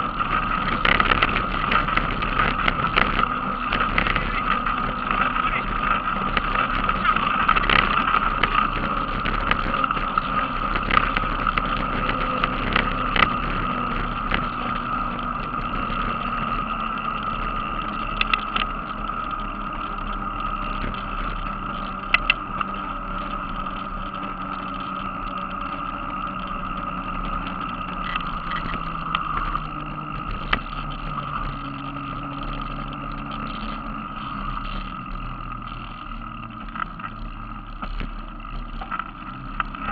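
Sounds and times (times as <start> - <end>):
tyre and wind noise: 0.0 - 24.0, 26.5 - 39.9
constant hum: 0.0 - 39.9.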